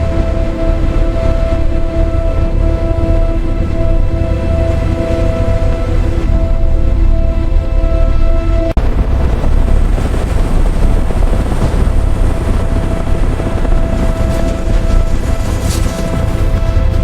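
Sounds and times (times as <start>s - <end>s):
low mechanical rumble: 0.0s - 17.0s
sustained musical drone: 0.0s - 17.0s.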